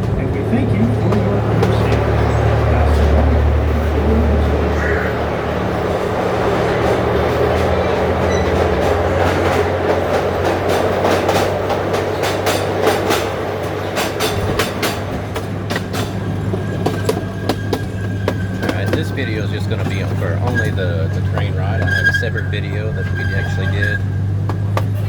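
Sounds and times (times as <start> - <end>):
train rumbling on track: 0.0 - 25.0
wheels clicking over rail joints: 0.0 - 25.0.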